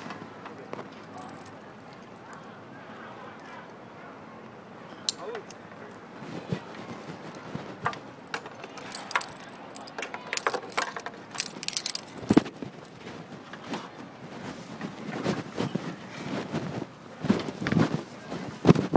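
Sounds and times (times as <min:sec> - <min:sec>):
handling noise rustles and clicks: 0:00.0 - 0:02.5, 0:05.0 - 0:18.9.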